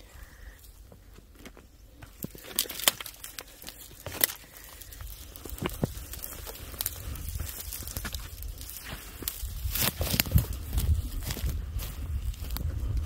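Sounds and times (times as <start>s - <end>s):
twigs snapping: 1.2s - 13.0s
footsteps on leaf litter: 1.4s - 13.0s.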